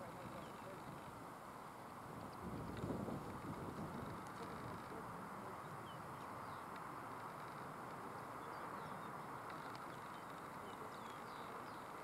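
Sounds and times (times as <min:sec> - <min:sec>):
small birds chirping: 0:00.0 - 0:01.2, 0:03.4 - 0:12.0.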